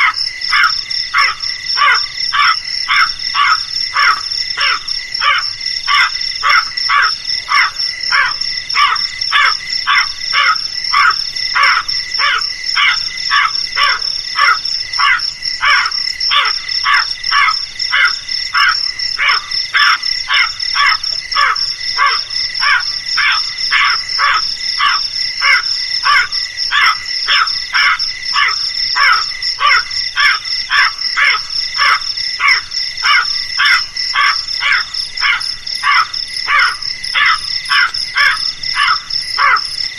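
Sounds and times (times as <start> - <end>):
crow cawing: 0.0 - 39.7
high-pitched insect trill: 0.0 - 39.9.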